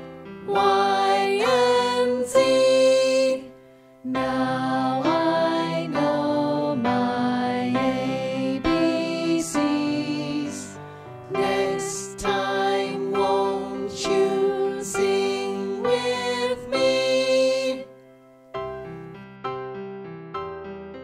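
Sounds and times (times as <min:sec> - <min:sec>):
children's song with keyboard: 0:00.0 - 0:18.0
soft keyboard melody: 0:00.0 - 0:21.0.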